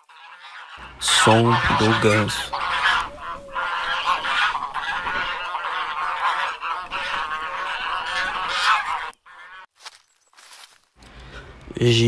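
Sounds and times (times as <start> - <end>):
goose honking: 0.0 - 9.7.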